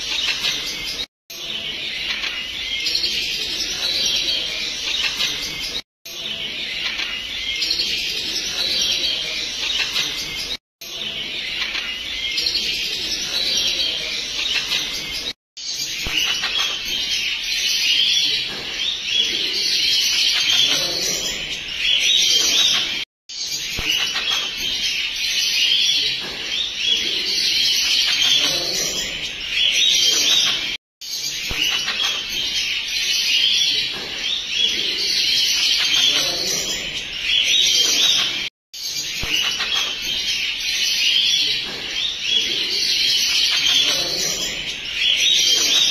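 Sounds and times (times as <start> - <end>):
birds chirping and twittering: 0.0 - 45.9.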